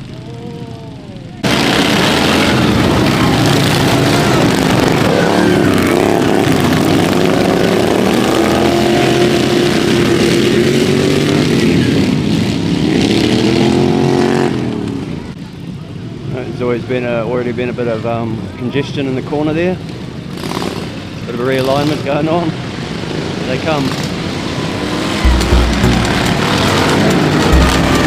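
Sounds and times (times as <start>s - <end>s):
lawnmower engines revving: 0.0s - 15.3s, 20.3s - 28.0s.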